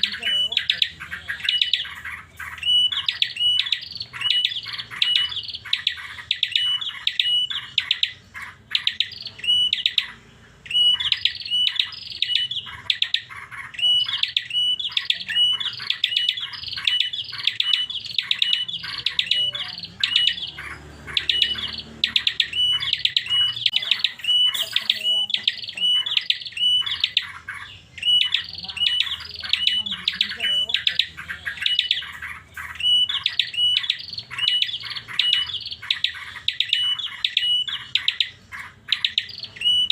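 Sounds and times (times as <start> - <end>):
bird singing high repeated notes: 0.0 - 39.9.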